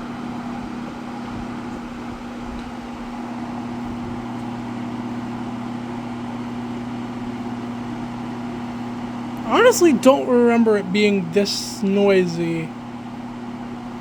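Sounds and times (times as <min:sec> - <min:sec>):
fan motor hum: 0:00.0 - 0:14.0.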